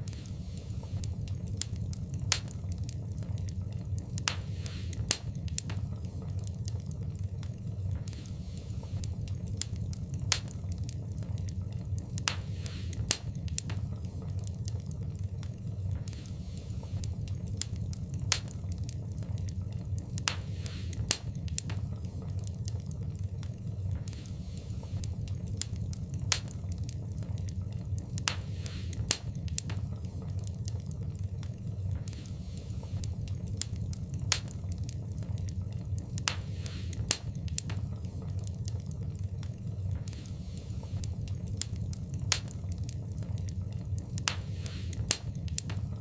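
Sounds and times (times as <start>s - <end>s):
fire hiss: 0.0s - 46.0s
low rumble of flames: 0.0s - 46.0s
wood fire crackling: 0.0s - 46.0s.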